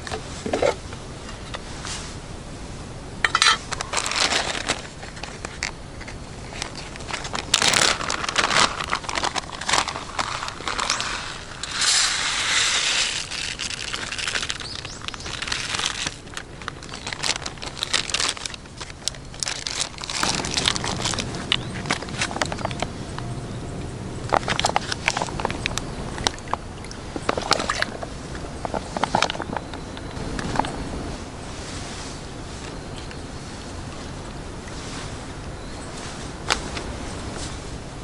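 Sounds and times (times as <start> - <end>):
crinkling and crackling: 0.0 - 2.2, 3.2 - 37.8.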